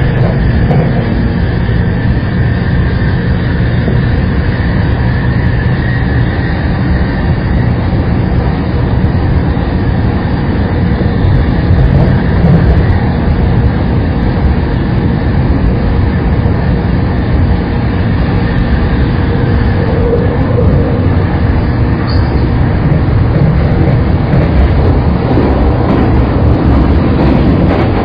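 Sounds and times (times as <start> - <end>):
faint steady whine: 0.0 - 24.2
train wheels rumbling on rails: 0.0 - 28.0.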